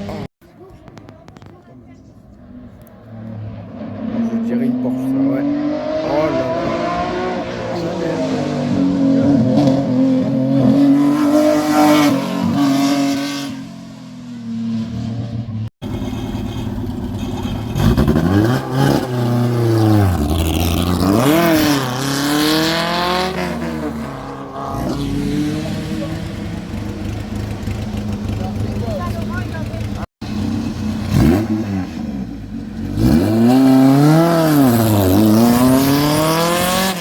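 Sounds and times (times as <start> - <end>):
rally car engines revving past: 2.2 - 37.0.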